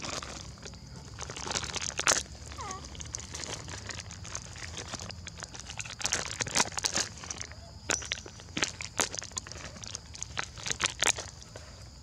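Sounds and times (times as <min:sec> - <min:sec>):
dry leaves crackling and rustling: 0:00.0 - 0:11.5.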